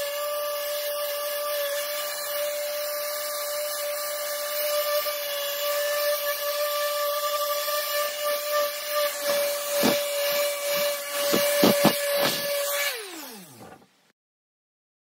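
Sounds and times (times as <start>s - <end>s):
orbital sander whine and hiss: 0.0s - 13.9s.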